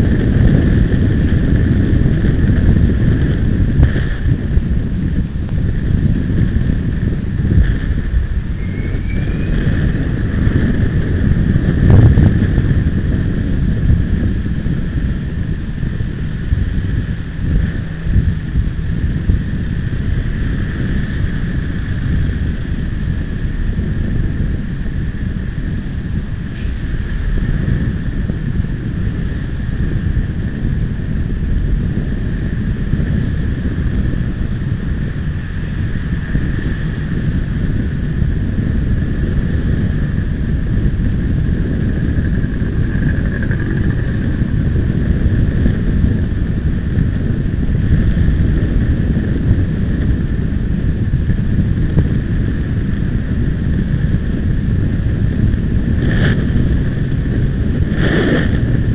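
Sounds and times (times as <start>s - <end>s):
vehicle noise: 0.0s - 58.9s
wind buffeting microphone: 0.0s - 58.9s.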